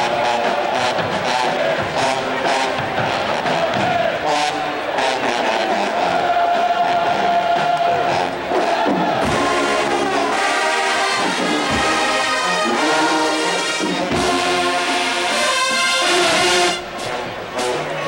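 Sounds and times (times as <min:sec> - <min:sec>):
marching band brass: 0:00.0 - 0:18.0.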